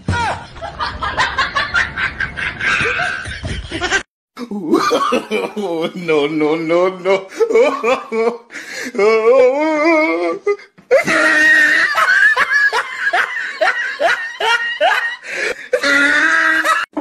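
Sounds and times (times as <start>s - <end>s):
person laughing heartily: 0.2s - 6.0s, 7.1s - 9.1s, 10.0s - 17.0s.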